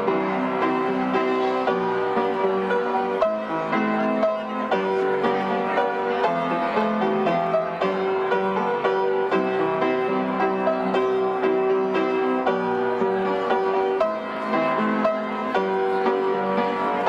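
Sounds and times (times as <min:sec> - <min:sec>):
piano melody over chords: 0:00.0 - 0:17.0.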